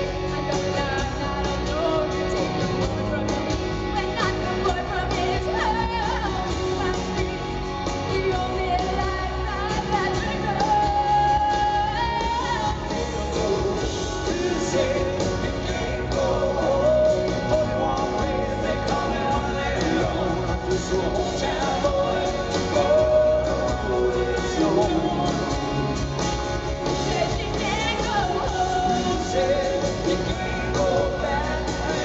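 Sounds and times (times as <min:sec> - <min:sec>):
lead vocals singing: 0:00.0 - 0:32.0
live rock band playing: 0:00.0 - 0:32.0.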